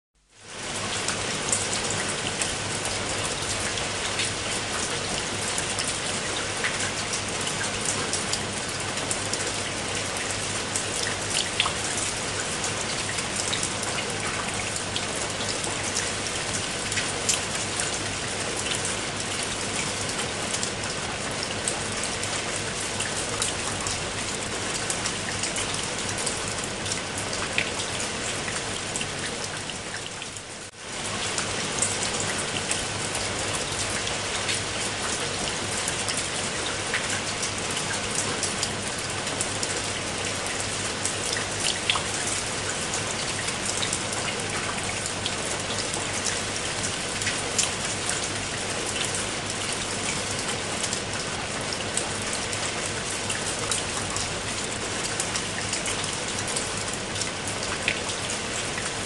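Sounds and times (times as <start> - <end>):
heavy rain falling: 0.2 - 59.0.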